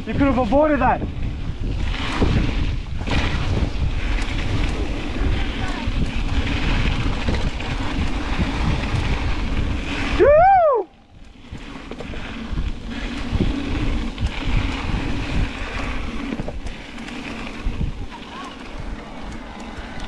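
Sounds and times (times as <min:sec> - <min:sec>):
bike rolling on dirt trail: 0:00.0 - 0:20.0
wind buffeting microphone: 0:00.0 - 0:20.0.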